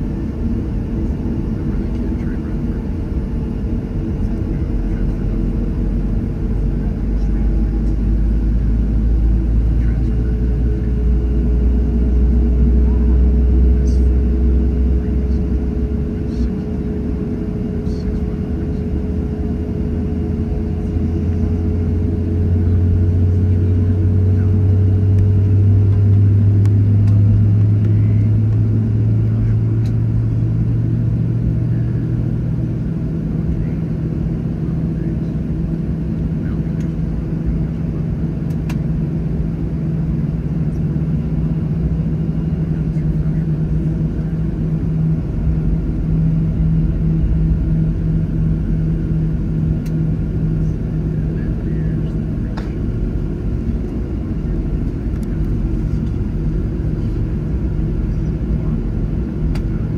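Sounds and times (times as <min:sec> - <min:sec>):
jet engines droning in cabin: 0:00.0 - 0:59.9
low hum: 0:00.0 - 0:59.9.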